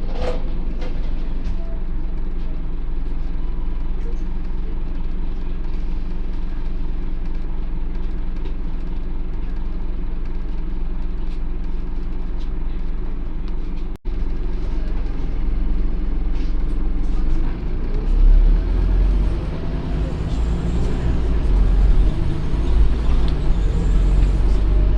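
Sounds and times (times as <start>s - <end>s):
bus engine drone: 0.0s - 24.9s.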